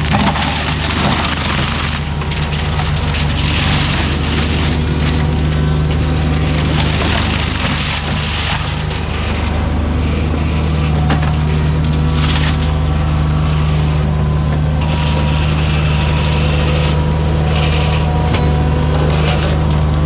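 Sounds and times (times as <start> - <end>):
heavy equipment engine running: 0.0 - 20.0
mulcher grinding wood: 0.0 - 20.0.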